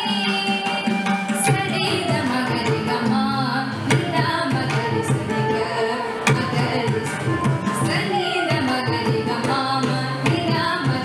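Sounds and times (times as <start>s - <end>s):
woman singing: 0.0s - 11.0s.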